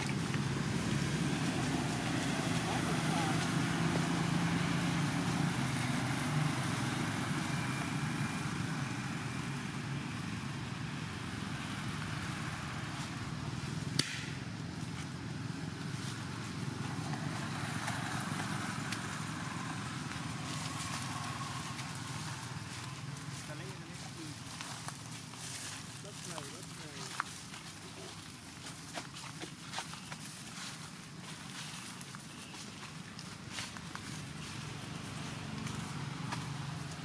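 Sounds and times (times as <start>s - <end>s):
motor engine humming: 0.0s - 37.0s.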